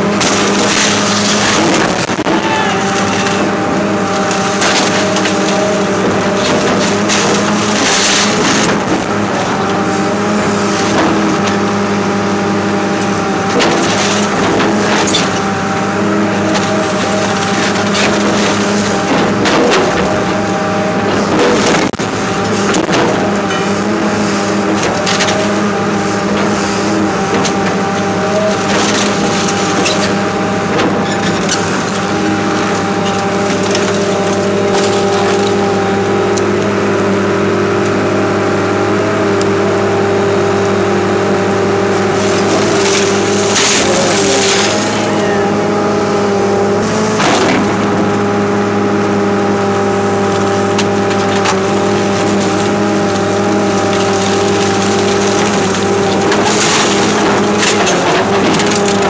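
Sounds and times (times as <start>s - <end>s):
excavator diesel engine: 0.0s - 59.0s
metal crunching: 0.0s - 59.0s.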